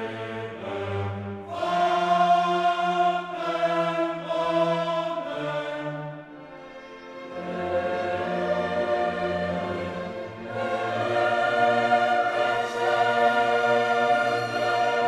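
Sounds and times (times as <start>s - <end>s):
choir singing held chords: 0.0s - 15.0s
orchestral music: 0.0s - 15.0s.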